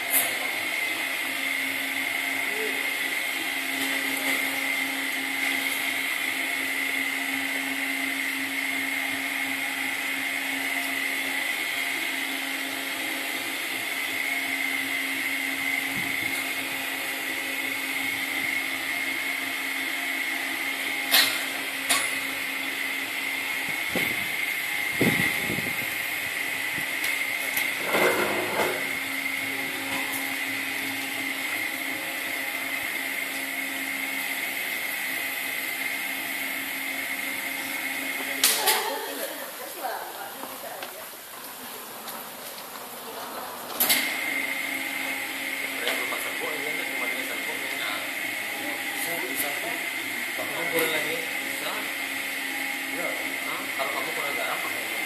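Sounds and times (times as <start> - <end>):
floor polisher motor whining: 0.0 - 55.0.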